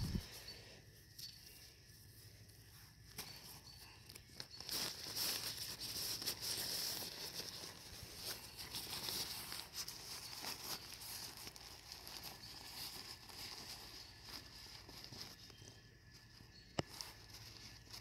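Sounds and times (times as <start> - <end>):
nylon fabric rustling and crinkling: 2.7 - 18.0.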